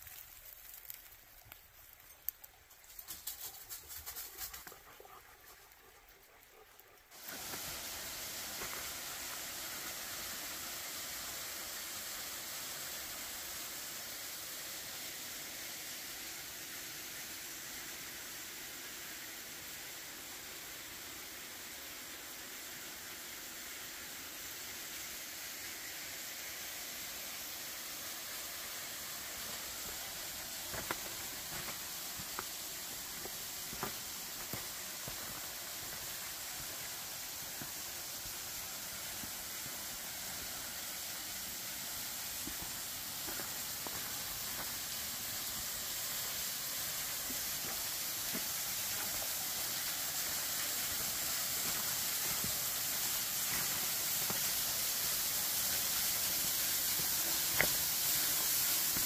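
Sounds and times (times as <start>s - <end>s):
creek water rushing: 7.1s - 59.0s.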